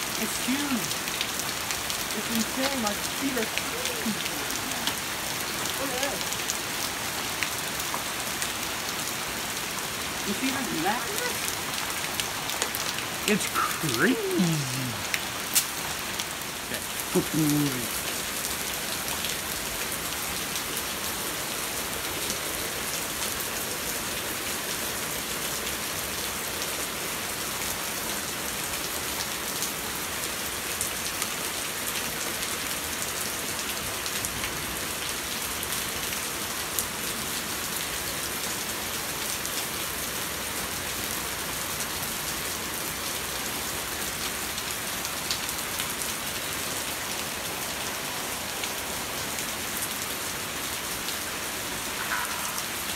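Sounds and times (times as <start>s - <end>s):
heavy rain and hail: 0.0s - 52.9s.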